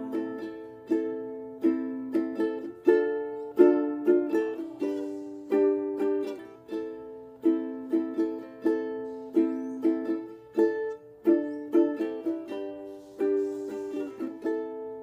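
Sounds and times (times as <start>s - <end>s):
plucked string instrument chords: 0.0s - 15.0s.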